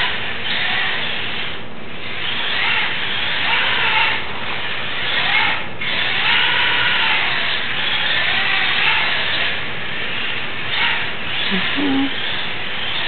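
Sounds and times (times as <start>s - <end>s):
toy car motor whining: 0.0s - 13.0s.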